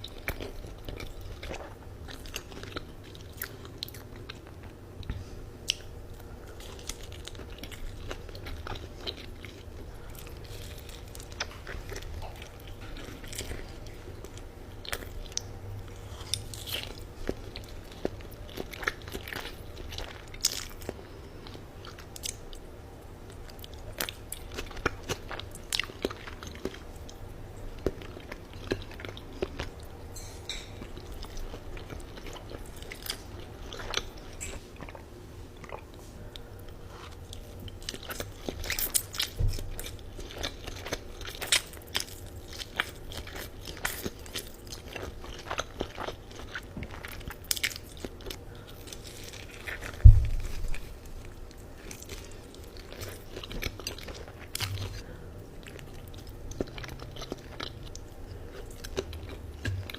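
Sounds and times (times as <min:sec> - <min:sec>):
faint steady hum: 0:00.0 - 0:59.9
person chewing noodles: 0:00.0 - 0:59.9.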